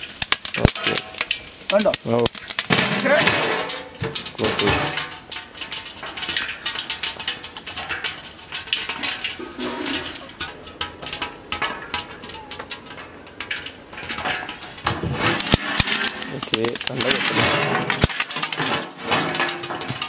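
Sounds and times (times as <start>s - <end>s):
popcorn popping in metal pot: 0.0s - 20.0s.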